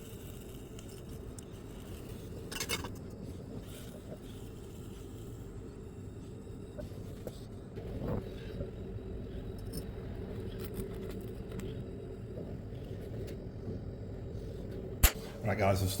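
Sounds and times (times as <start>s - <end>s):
gas torch flame rushing: 0.0s - 16.0s.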